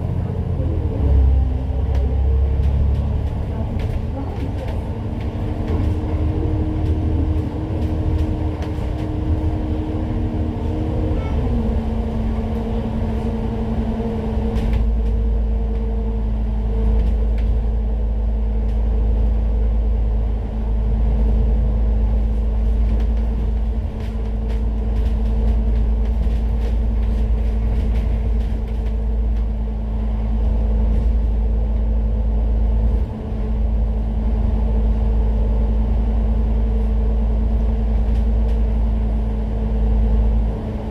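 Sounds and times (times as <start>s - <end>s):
bus engine droning: 0.0s - 40.9s
heavy low rumble: 0.0s - 40.9s.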